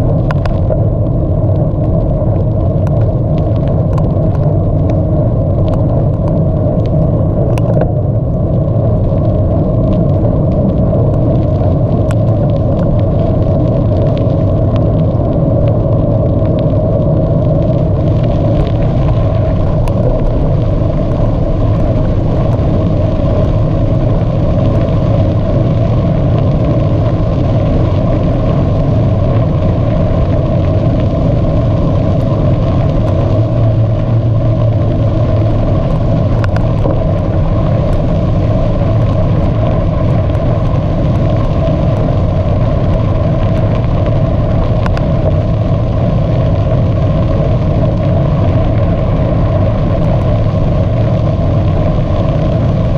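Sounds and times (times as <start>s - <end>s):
bicycle tyres rolling: 0.0s - 52.9s
wind on microphone: 0.0s - 52.9s.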